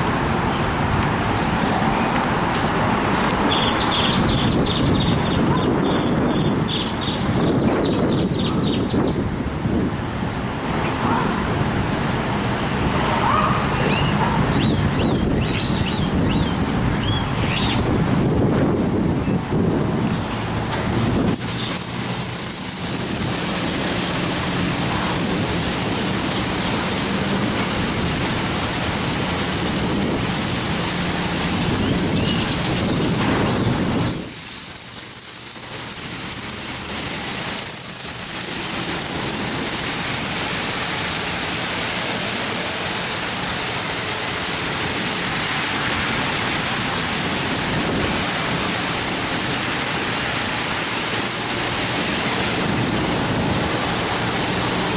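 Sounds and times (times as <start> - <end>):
water spraying hiss: 0.0 - 10.8, 19.6 - 54.9.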